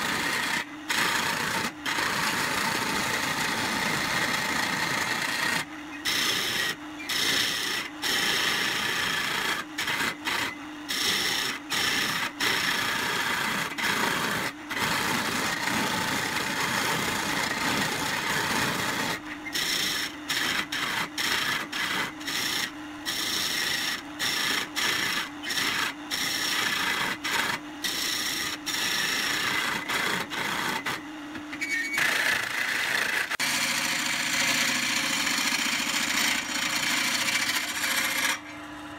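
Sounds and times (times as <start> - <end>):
wood lathe humming: 0.0 - 31.4, 32.0 - 38.6
chisel scraping spinning wood: 0.0 - 38.6.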